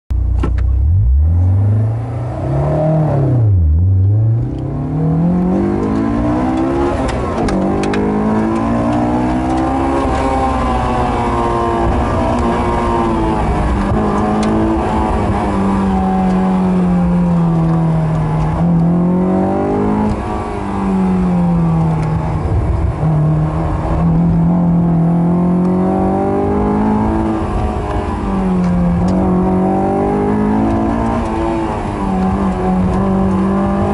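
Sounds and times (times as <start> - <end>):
sports car engine revving: 0.2 - 33.9.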